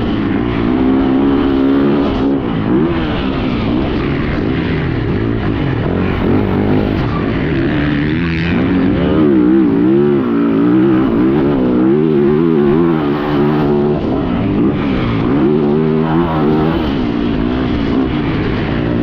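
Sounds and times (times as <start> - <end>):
motocross engine revving: 0.0 - 19.0.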